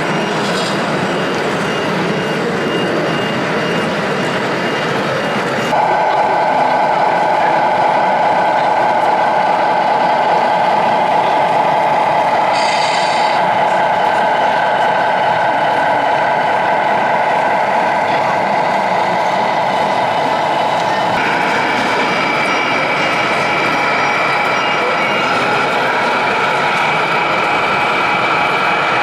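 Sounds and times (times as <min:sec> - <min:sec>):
electronic diesel engine idle: 0:05.7 - 0:29.0.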